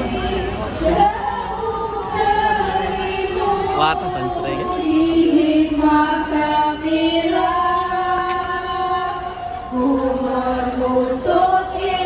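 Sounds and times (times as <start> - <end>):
voices chanting held notes: 0.0 - 12.0.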